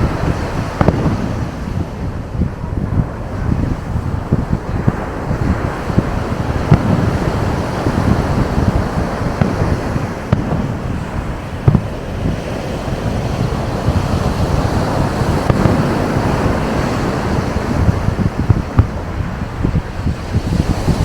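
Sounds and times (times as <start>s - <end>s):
breaking surf: 0.0s - 21.0s
firework bangs: 0.0s - 21.0s
wind buffeting microphone: 0.0s - 21.0s.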